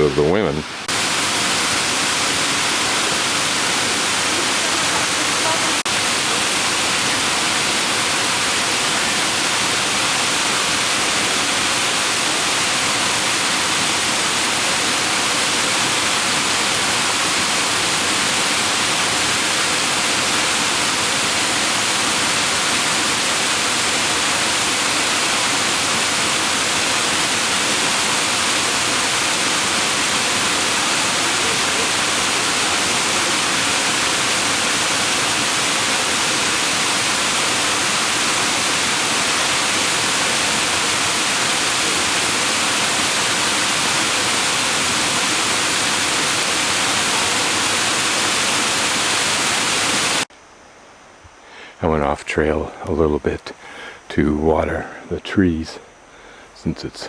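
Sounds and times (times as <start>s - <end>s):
waterfall rushing: 0.0s - 50.3s.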